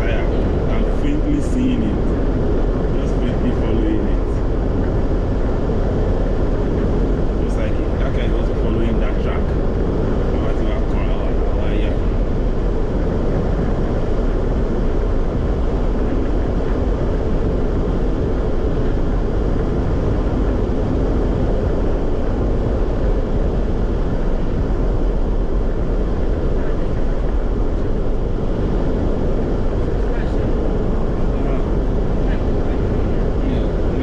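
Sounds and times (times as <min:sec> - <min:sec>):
loud low rumble: 0:00.0 - 0:34.0.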